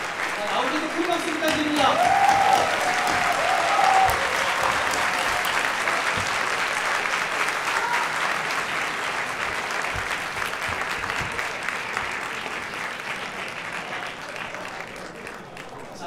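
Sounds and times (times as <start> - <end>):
audience clapping: 0.0 - 16.0.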